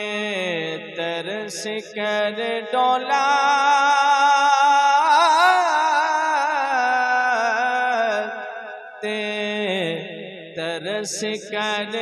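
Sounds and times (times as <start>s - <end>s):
man singing: 0.0s - 8.4s, 9.0s - 12.0s.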